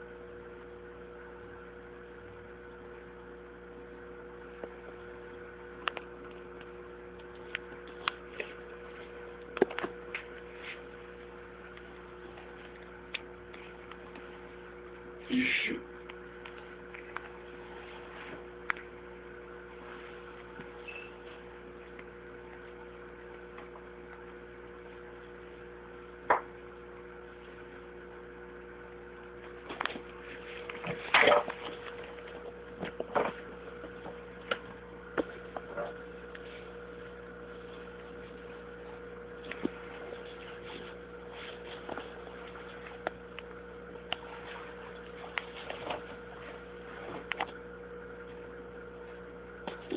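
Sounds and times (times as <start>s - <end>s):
aquarium filter pump hum: 0.0s - 49.9s.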